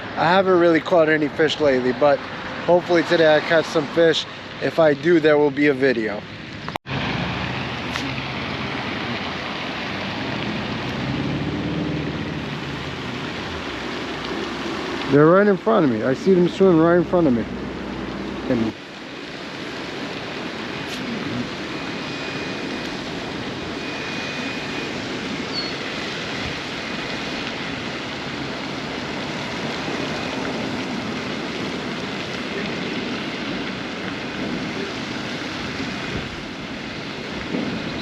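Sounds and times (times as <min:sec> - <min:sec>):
steady outdoor rushing noise: 0:00.0 - 0:38.0.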